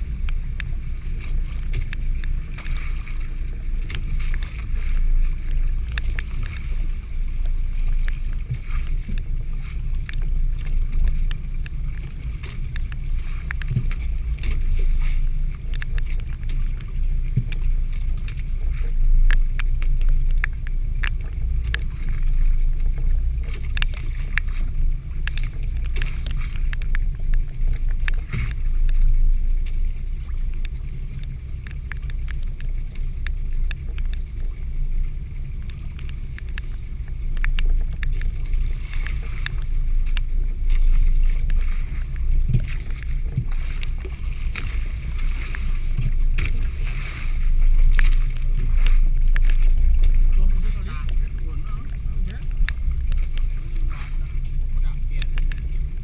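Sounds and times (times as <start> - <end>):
boat engine rumble: 0.0 - 56.0
scattered ticks and taps: 0.1 - 54.0, 54.8 - 55.9.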